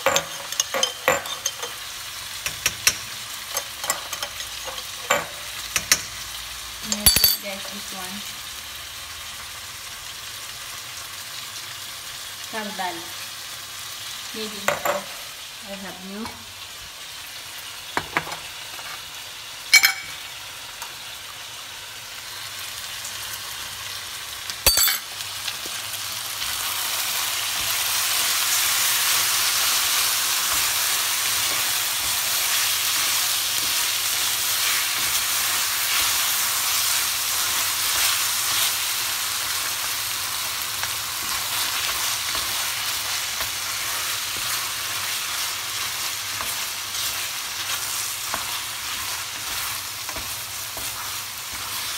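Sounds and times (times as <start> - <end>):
chicken sizzling in a pan: 1.3 - 51.9.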